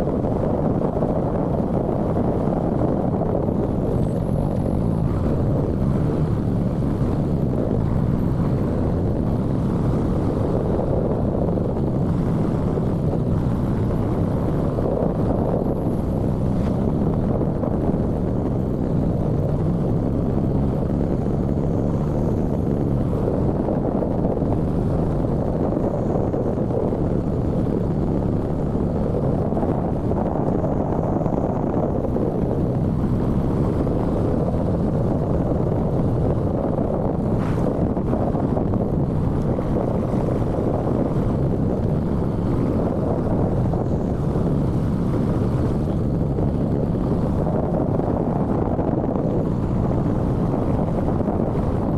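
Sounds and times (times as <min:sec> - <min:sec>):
motorcycle engine and road noise: 0:00.0 - 0:51.9
wind rush: 0:00.0 - 0:51.9.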